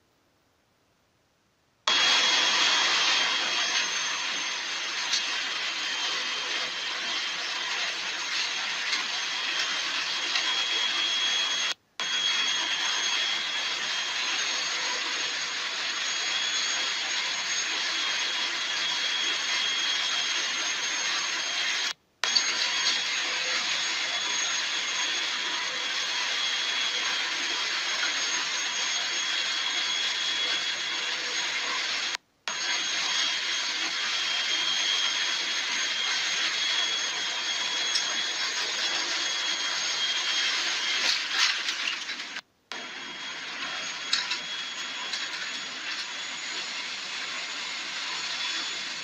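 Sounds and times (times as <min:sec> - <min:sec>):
jet engine rush: 0:01.9 - 0:49.0
thin high whine: 0:01.9 - 0:49.0.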